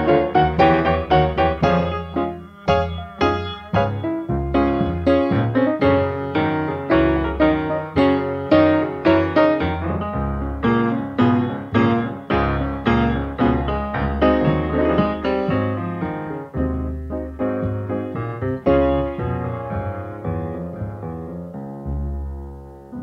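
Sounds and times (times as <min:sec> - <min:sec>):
solo jazz piano blues: 0:00.0 - 0:23.0.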